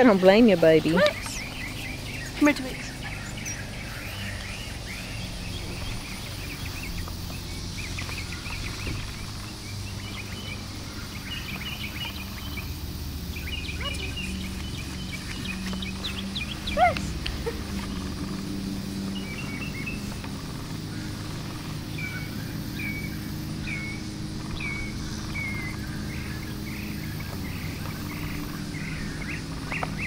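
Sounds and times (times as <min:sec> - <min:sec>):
small birds chirping: 0:00.0 - 0:30.0
steady low hum: 0:00.0 - 0:30.0.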